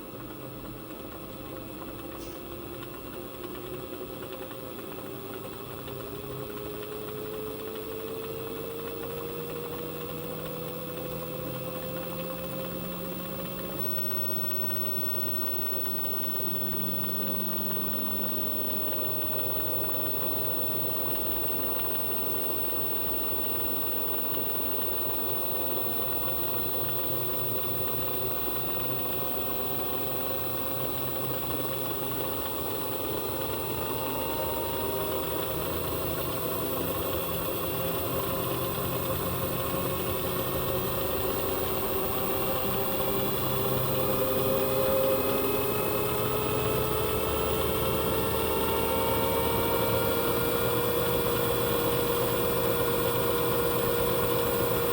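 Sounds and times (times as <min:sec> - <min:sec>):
washing machine motor whine: 0:00.0 - 0:54.9.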